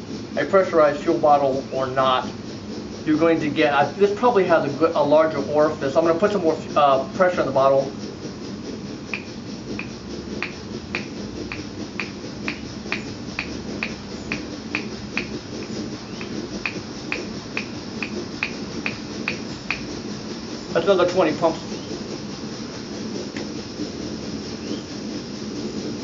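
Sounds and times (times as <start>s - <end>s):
stove burner hissing: 0.0s - 26.0s.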